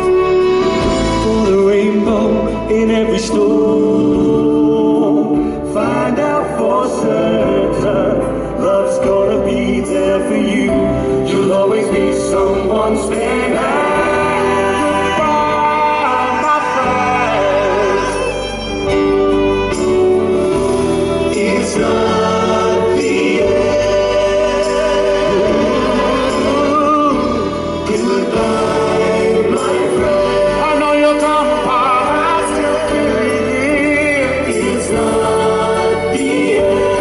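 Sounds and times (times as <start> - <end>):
male vocal group singing: 0.0 - 18.8, 20.5 - 37.0
band playing: 0.0 - 37.0.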